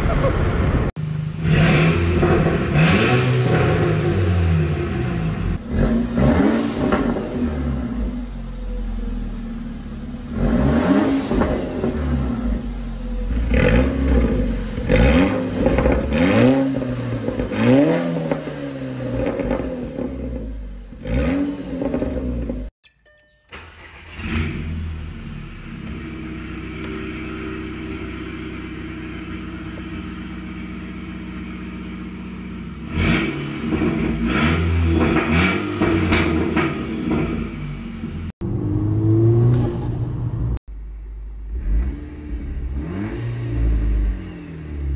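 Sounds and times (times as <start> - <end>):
car engine revving: 0.0 - 22.7, 23.6 - 44.9.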